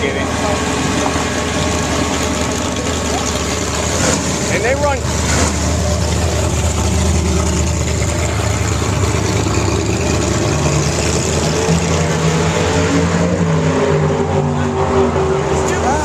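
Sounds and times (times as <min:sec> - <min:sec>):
drag racing engines roaring: 0:00.0 - 0:16.0.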